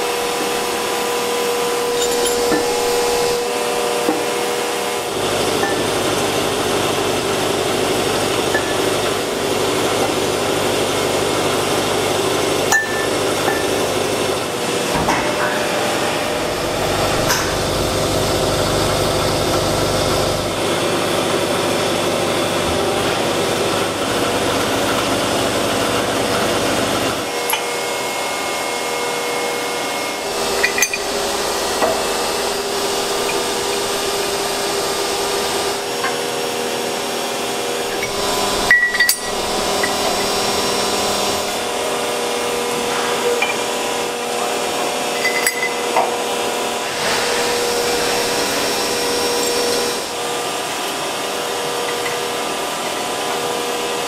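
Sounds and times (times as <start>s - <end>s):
factory machinery hum: 0.0s - 54.0s.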